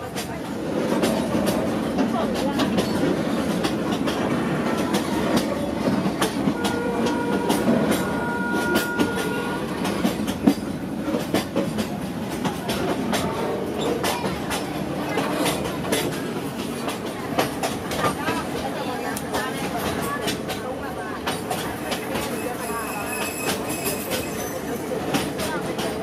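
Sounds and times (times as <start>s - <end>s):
train carriage rumbling and rattling: 0.0s - 26.0s.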